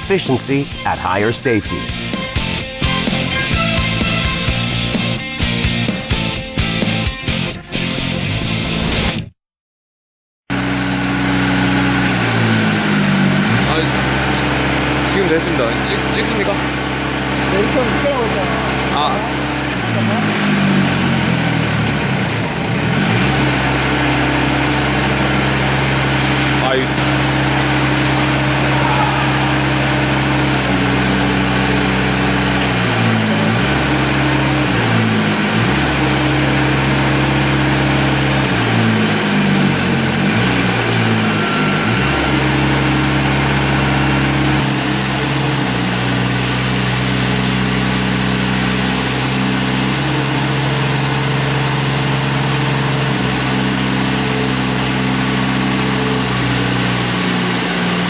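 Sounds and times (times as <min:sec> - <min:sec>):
engine running steadily: 0:00.0 - 0:07.7, 0:10.5 - 0:58.0.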